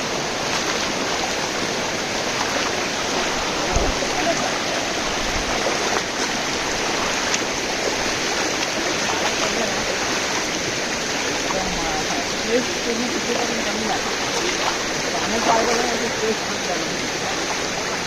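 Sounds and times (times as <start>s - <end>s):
fast-flowing stream rushing: 0.0s - 18.0s.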